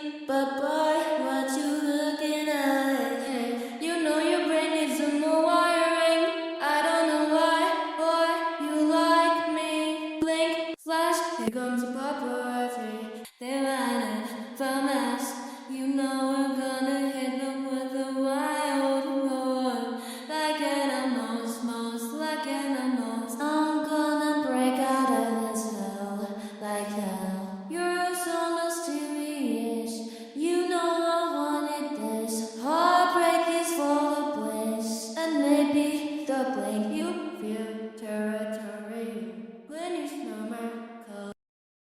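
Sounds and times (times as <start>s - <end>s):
woman singing layered pop vocals: 0.0s - 41.4s.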